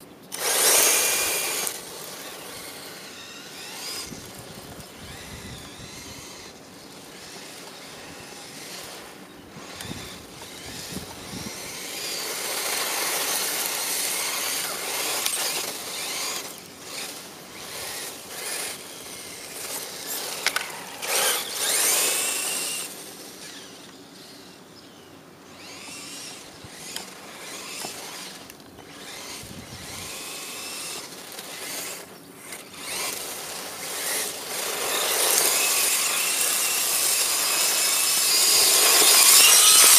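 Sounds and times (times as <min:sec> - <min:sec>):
toy truck motor whining: 0:00.3 - 0:39.9
tyres hissing on dirt: 0:00.4 - 0:23.5, 0:25.7 - 0:39.9.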